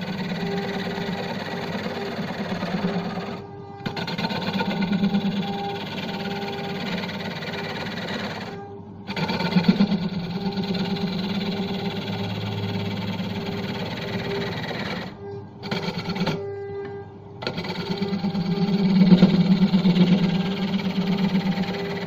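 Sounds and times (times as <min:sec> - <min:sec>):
gouge cutting wood: 0:00.0 - 0:16.5, 0:17.4 - 0:22.0
wood lathe motor drone: 0:00.0 - 0:22.0.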